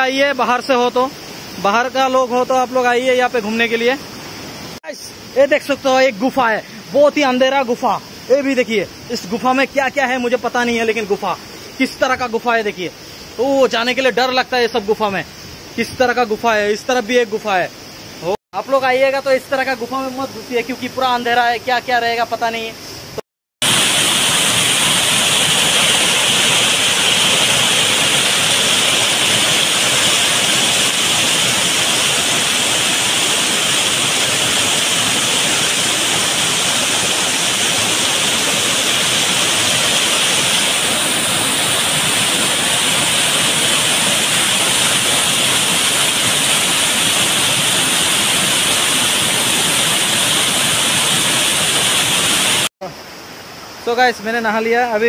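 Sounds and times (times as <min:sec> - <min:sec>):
waterfall rushing over rocks: 0:00.0 - 0:14.2, 0:23.6 - 0:55.0.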